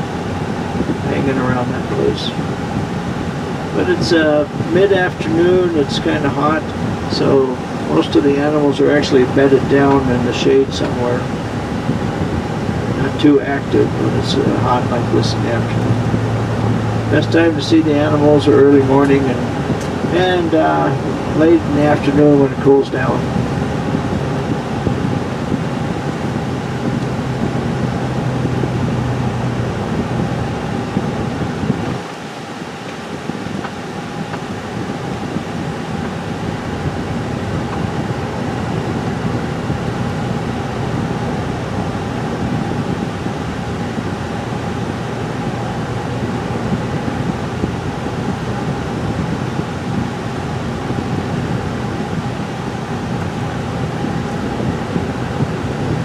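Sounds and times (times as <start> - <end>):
road and engine noise in car: 0.0 - 56.0.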